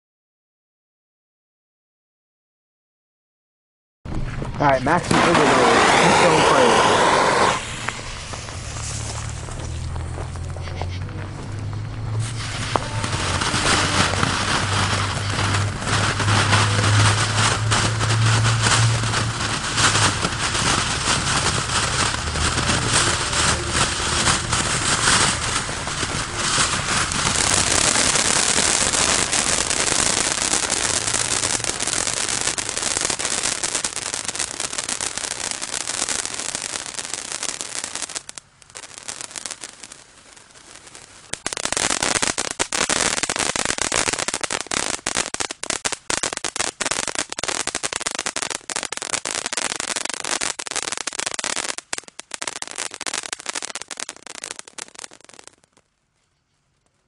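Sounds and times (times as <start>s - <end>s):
crackling firework pops: 4.1s - 56.0s
firework fountain spraying sparks: 4.6s - 55.8s.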